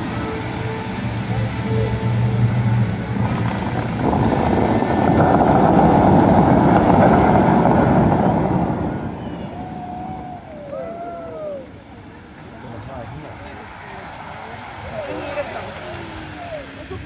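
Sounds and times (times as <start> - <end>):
water jets rushing: 0.0 - 17.0.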